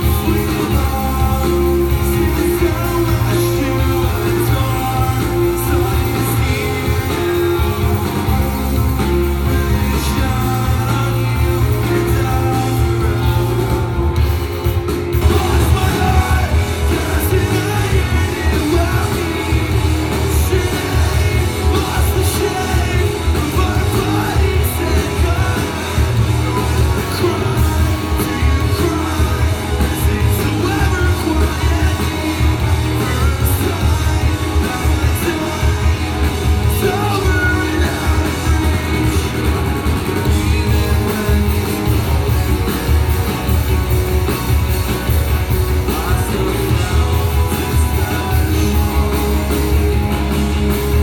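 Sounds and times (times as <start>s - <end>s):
drums: 0.0s - 51.0s
electric guitars: 0.0s - 51.0s
lead vocalist singing: 0.0s - 51.0s.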